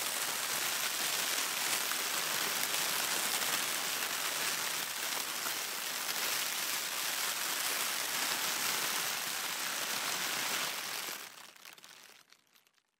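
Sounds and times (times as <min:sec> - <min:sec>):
plastic bag rustling: 0:00.0 - 0:12.9.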